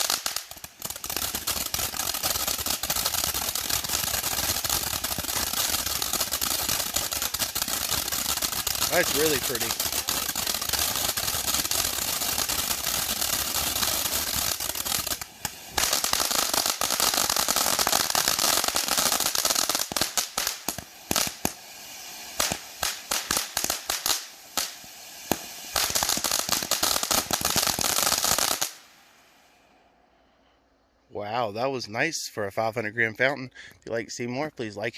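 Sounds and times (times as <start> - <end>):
firework fountain crackling and hissing: 0.0 - 30.8.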